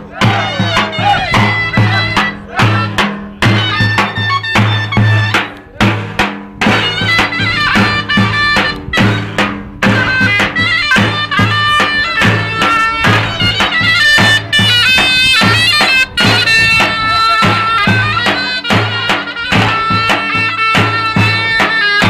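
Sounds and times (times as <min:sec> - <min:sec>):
bass drum beating: 0:00.0 - 0:21.6
zurna melody: 0:00.0 - 0:22.0.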